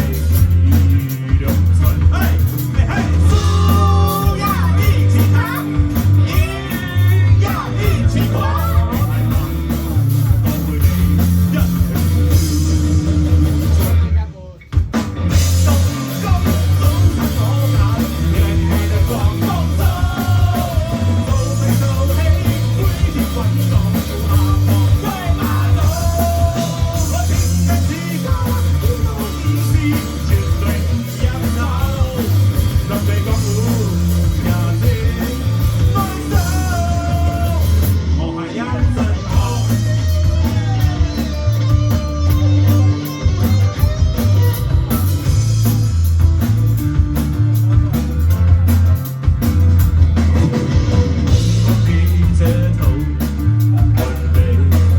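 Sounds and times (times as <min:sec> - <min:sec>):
person singing: 0:00.0 - 0:13.9, 0:15.3 - 0:45.2, 0:50.6 - 0:54.9
rock band playing live: 0:00.0 - 0:54.9.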